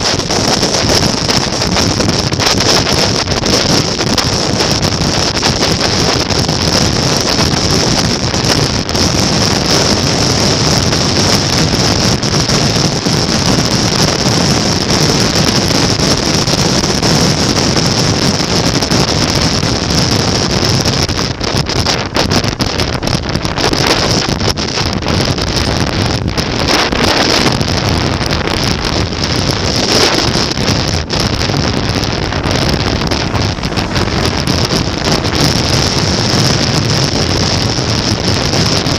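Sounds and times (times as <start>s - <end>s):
motorcycle engine running: 0.0s - 38.9s
road noise: 0.0s - 38.9s
wind buffeting microphone: 0.0s - 38.9s.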